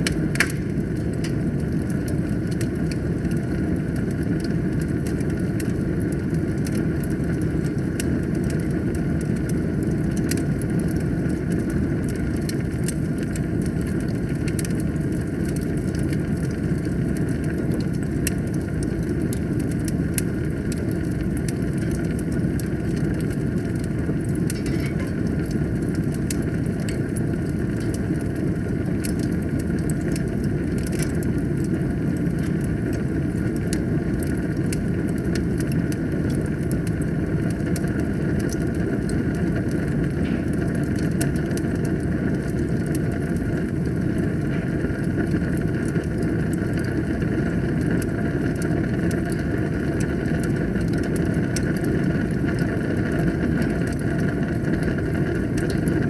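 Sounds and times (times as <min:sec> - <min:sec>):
fire crackling and popping: 0:00.0 - 0:56.0
fire roaring: 0:00.0 - 0:56.0.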